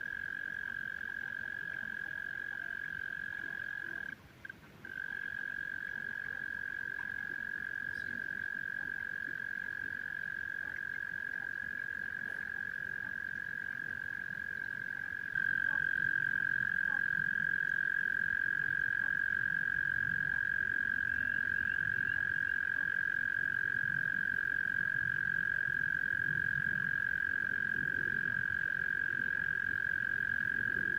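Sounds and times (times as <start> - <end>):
chorus of frogs trilling: 0.0 - 30.9.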